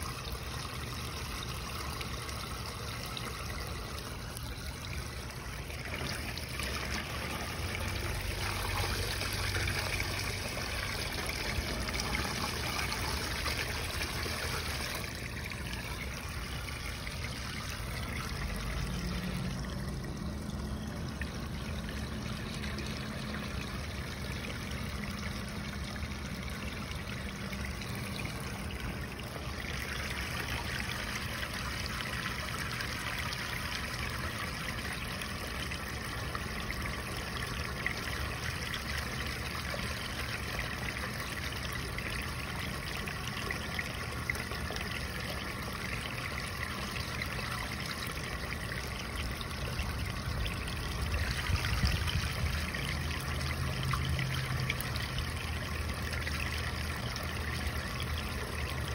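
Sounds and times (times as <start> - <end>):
steady low hum: 0.0 - 58.9
water splashing into drain: 0.0 - 58.9.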